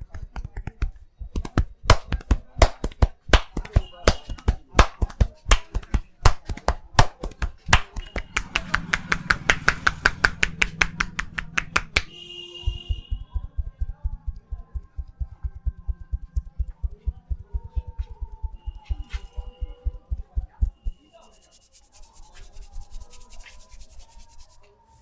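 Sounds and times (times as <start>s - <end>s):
fast chopping taps: 0.0s - 21.0s
hands slapping a head: 0.0s - 24.5s.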